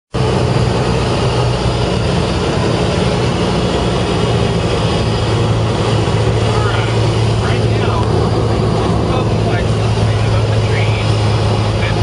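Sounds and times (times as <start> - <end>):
aircraft engine and propeller droning: 0.1 - 12.0
airflow rushing: 0.2 - 12.0.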